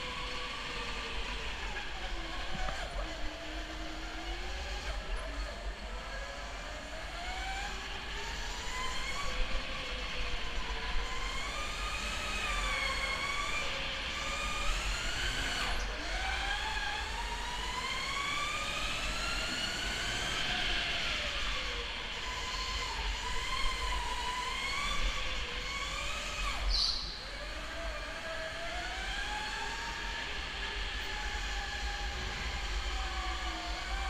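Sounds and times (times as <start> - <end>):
electric go-kart motors whining: 0.0 - 34.0.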